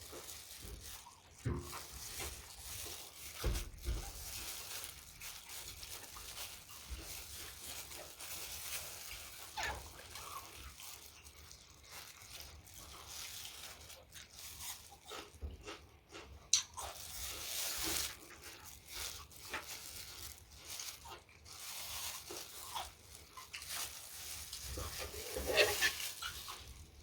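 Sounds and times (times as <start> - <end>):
mouth chewing and biting food: 0.0 - 27.0
wet clicks and crunches: 0.0 - 27.0.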